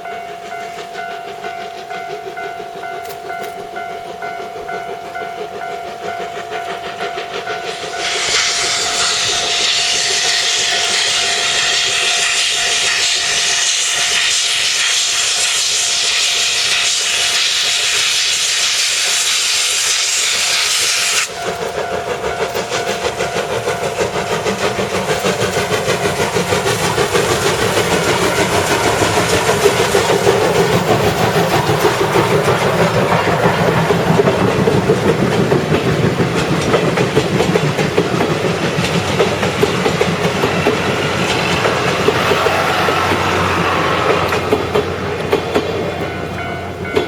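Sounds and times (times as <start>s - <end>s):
steam locomotive hissing steam: 0.0s - 47.0s
train running with rhythmic beat: 0.0s - 47.0s.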